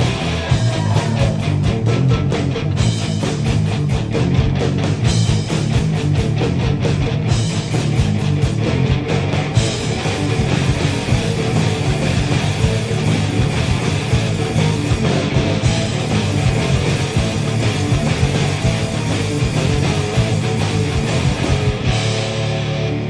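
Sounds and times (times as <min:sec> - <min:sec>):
fast drum hits: 0:00.0 - 0:22.5
bass guitar: 0:00.0 - 0:23.0
electric guitars: 0:00.0 - 0:23.0.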